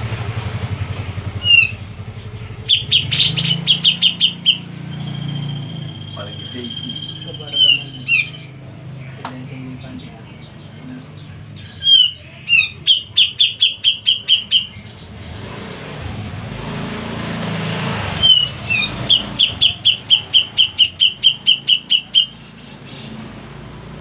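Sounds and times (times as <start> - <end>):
bulbul singing chattering phrases: 0.0 - 15.9, 18.2 - 23.4.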